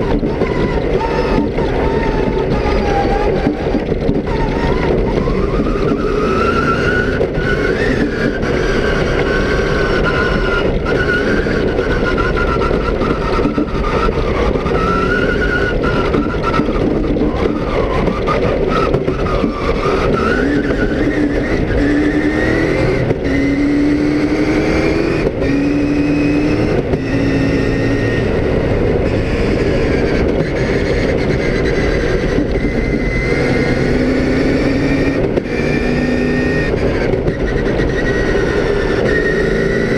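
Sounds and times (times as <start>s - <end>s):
loud road noise: 0.0s - 39.9s
race car engine accelerating: 0.0s - 39.9s.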